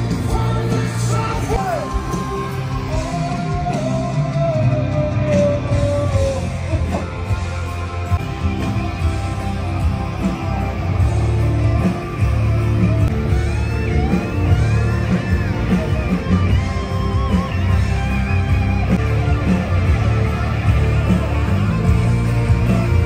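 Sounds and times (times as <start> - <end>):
electric guitar lead line bending: 0.0 - 23.0
live rock band playing: 0.0 - 23.0.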